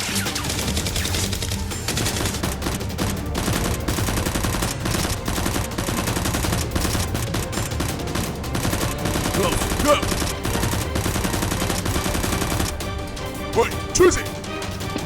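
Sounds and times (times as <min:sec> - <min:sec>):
rapid automatic gunfire: 0:00.0 - 0:12.9.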